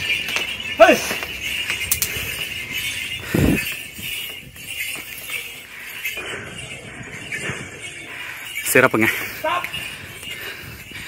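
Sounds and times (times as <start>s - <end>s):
bells jingling: 0.0s - 11.0s
bullock walking up stone steps: 0.0s - 11.0s.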